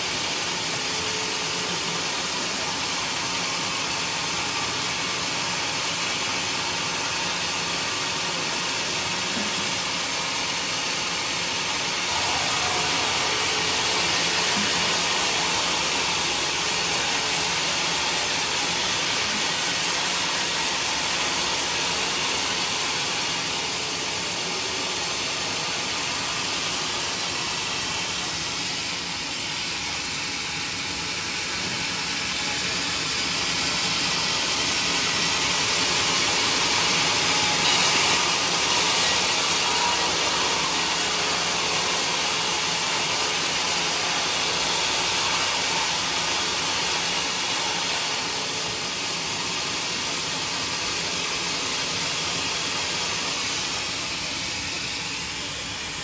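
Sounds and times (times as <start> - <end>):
band saw cutting wood: 0.1 - 56.0.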